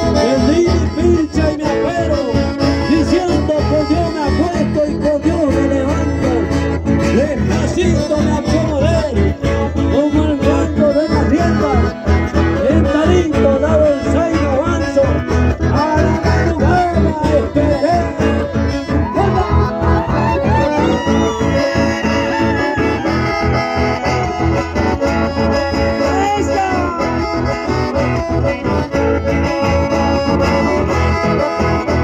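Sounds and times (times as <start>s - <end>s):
accordion and guitar dance music: 0.0s - 32.0s.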